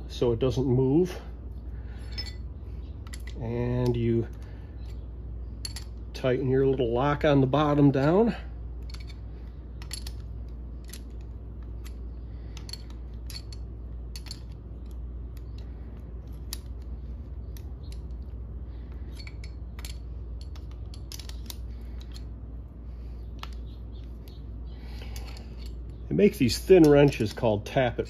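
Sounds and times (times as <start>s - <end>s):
steady low hum: 0.0s - 28.0s
metal wrenches clicking: 2.0s - 5.0s, 5.6s - 6.2s, 7.9s - 22.3s, 23.3s - 28.0s.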